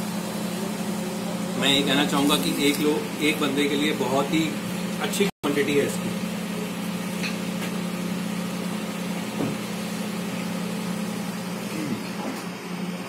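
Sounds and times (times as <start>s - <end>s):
kitchen equipment hiss: 0.0s - 12.6s.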